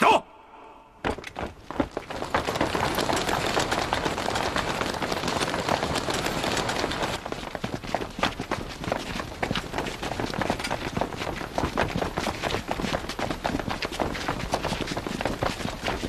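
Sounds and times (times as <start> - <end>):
many footsteps hurrying on stone: 1.0 - 16.0.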